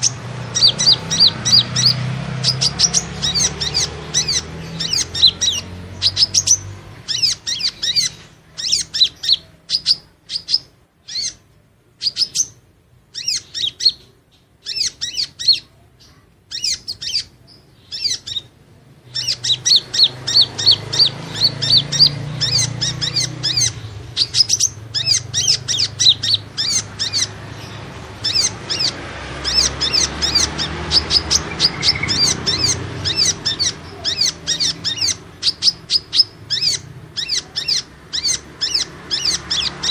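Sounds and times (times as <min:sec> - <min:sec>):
bird chirping high and sharp: 0:00.0 - 0:39.9.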